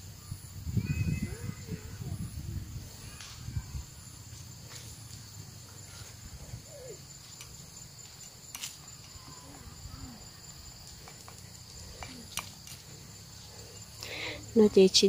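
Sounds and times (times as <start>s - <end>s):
insects chirring: 0.0s - 15.0s
wind rumble: 0.0s - 15.0s.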